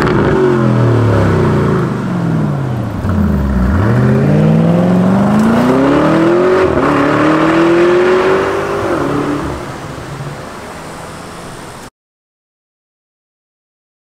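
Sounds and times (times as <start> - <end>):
car engine accelerating hard: 0.0 - 11.9.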